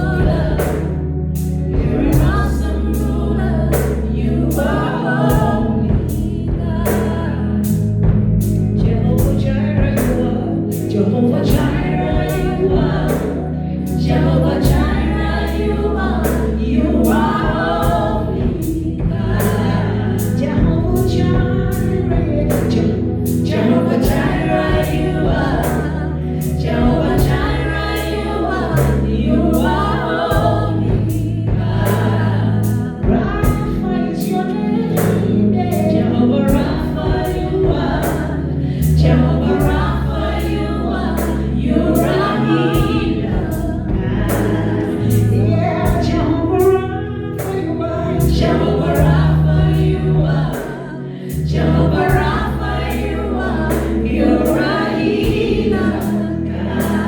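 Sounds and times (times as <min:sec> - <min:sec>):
band playing: 0:00.0 - 0:57.0
choir singing gospel music: 0:00.0 - 0:57.0.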